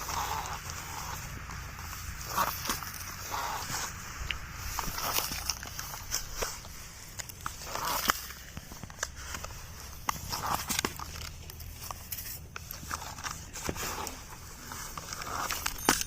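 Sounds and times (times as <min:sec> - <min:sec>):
plastic clicks and scrapes on sand: 0:00.0 - 0:16.0.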